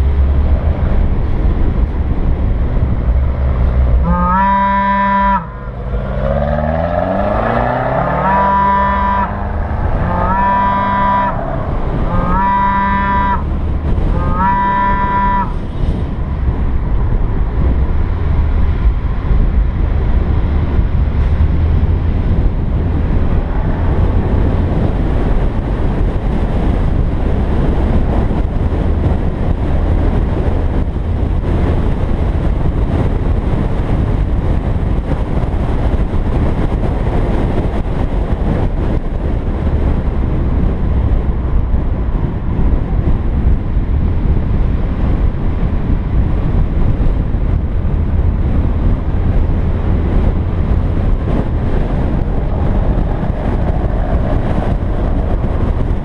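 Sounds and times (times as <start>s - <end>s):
car engine and tyre noise: 0.0s - 56.0s
wind buffeting the microphone: 0.0s - 56.0s.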